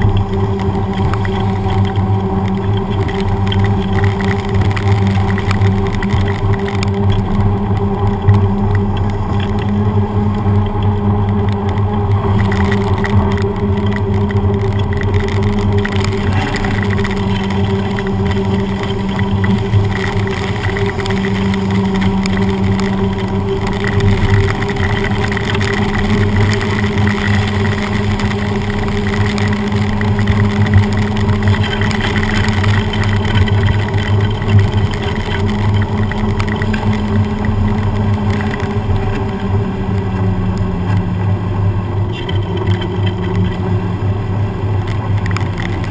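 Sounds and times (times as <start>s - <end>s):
bicycle tyre rolling on wet road: 0.0s - 45.9s.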